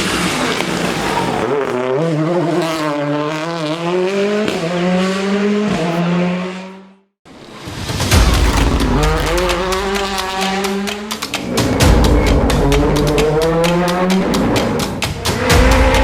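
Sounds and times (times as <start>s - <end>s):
car engine accelerating hard: 0.0s - 7.6s, 8.2s - 16.0s.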